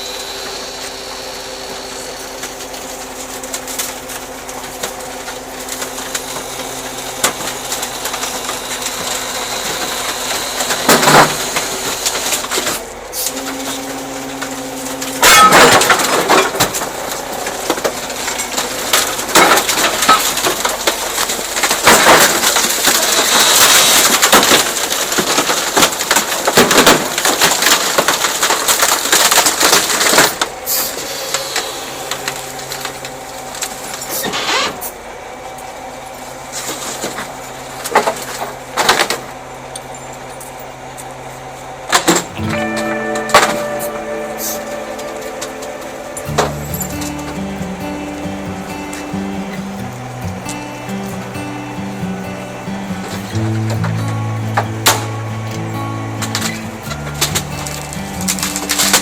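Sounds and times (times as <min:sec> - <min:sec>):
hydraulic compactor humming: 0:00.0 - 0:30.2, 0:42.0 - 0:59.0.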